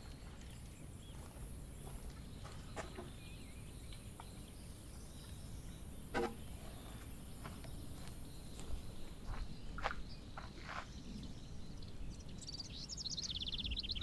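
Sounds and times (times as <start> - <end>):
faint insect hum: 0.0 - 14.0.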